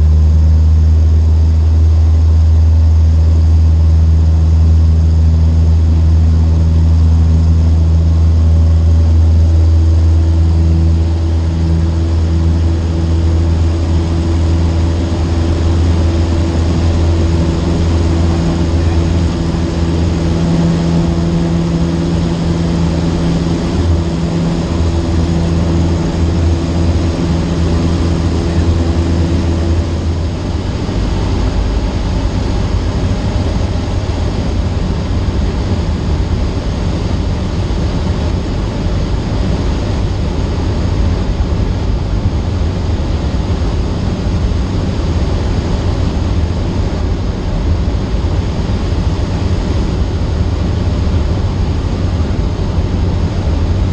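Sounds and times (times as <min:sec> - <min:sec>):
airplane engine and propeller droning: 0:00.0 - 0:53.9
rough rushing noise: 0:04.4 - 0:53.9.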